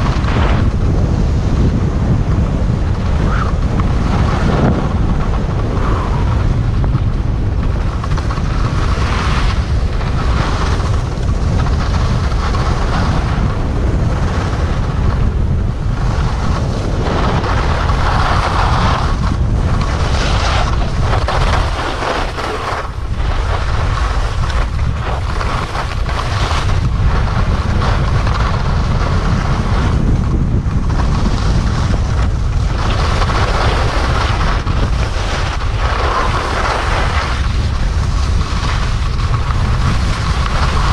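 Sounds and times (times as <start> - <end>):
skis scraping over snow: 0.0 - 40.9
wind buffeting microphone: 0.0 - 40.9.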